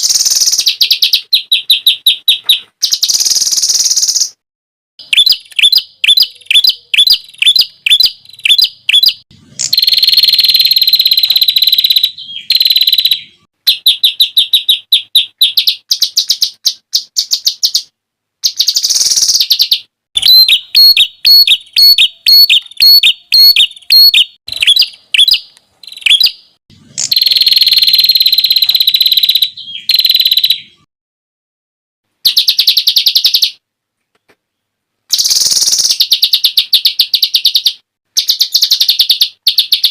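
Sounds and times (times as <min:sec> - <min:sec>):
songbird singing sharp trills: 0:00.0 - 0:04.4, 0:05.0 - 0:30.9, 0:32.2 - 0:33.6, 0:35.1 - 0:39.9.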